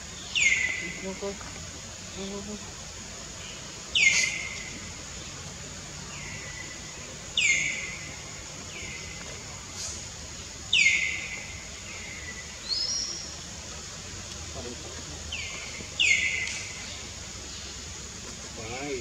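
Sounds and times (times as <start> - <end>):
forest background noise: 0.0 - 19.0.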